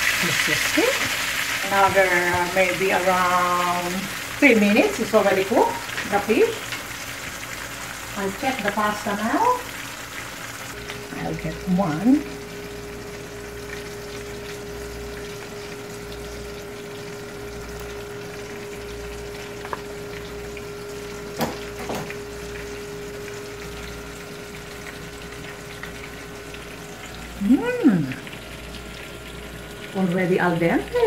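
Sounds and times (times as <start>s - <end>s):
fish sizzling in a pan: 0.0s - 31.0s
steady hum: 0.0s - 31.0s
water boiling in a pot: 0.0s - 31.0s.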